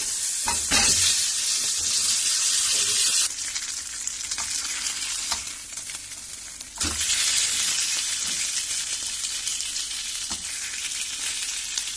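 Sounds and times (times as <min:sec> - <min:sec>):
fish sizzling in hot oil: 0:00.0 - 0:11.9.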